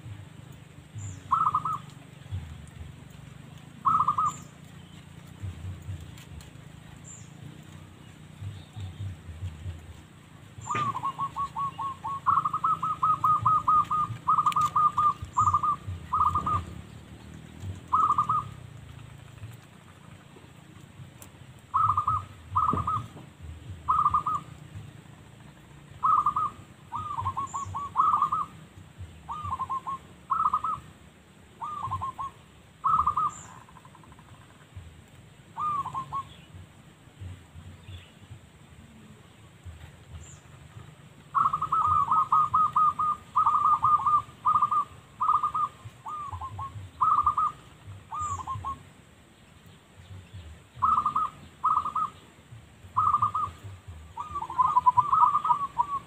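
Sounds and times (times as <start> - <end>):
dove cooing: 0.9 - 49.0, 50.2 - 56.0.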